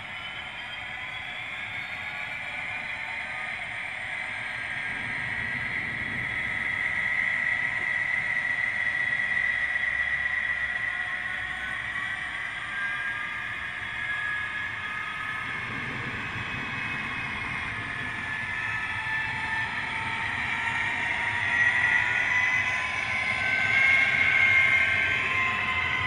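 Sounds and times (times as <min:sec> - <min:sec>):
electric motor whine: 0:00.0 - 0:26.0
wheels rumbling on rail: 0:00.0 - 0:26.0.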